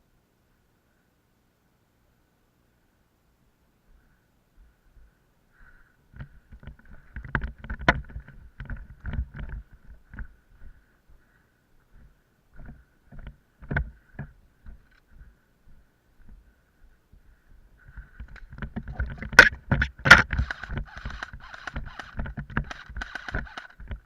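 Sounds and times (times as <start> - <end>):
faint steady high whine: 0.0 - 24.0
irregular knocks and crunching thumps: 4.6 - 24.0.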